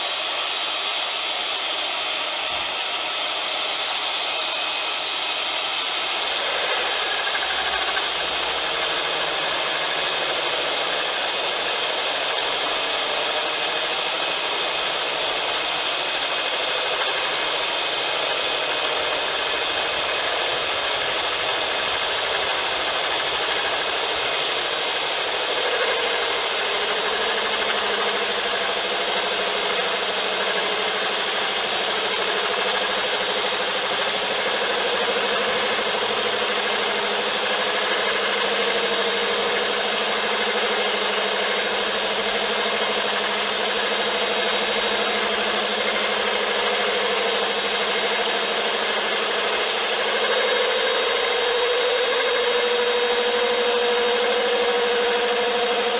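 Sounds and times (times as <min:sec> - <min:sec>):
core drill grinding into tile: 0:00.0 - 0:55.9.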